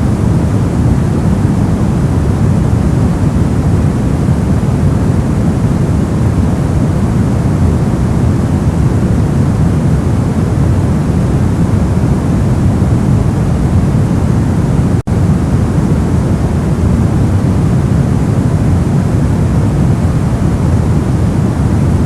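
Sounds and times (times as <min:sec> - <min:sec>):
low white noise hiss: 0:00.0 - 0:22.0.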